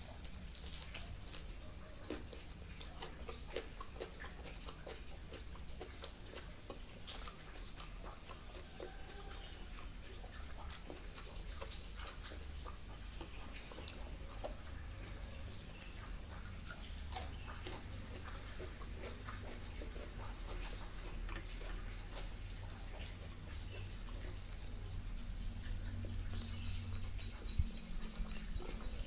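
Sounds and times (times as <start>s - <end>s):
chewing with wet mouth clicks: 0.0s - 29.0s
low steady hum: 0.0s - 29.0s.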